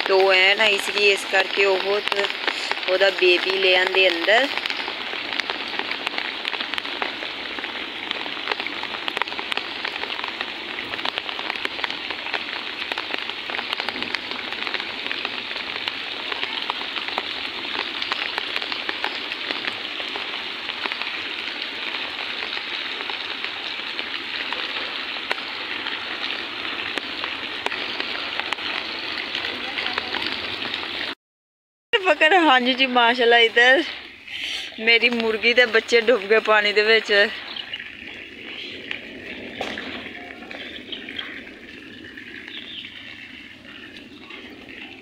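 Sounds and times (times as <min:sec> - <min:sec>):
heavy rain splashing on water: 0:00.0 - 0:31.2, 0:32.0 - 0:45.0.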